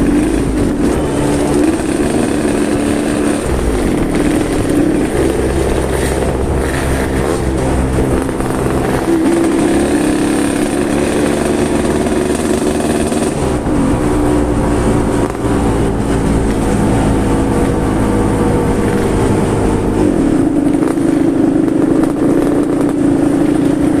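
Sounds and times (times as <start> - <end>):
two-stroke motorcycle engine: 0.0 - 24.0.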